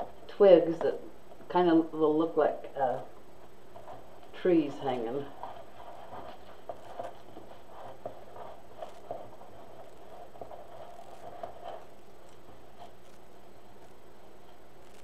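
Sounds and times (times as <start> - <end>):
steady room hum: 0.0 - 15.0.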